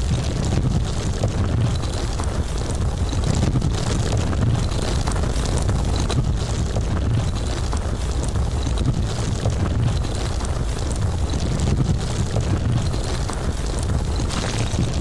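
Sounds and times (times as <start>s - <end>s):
deep landslide rumble: 0.0s - 15.0s.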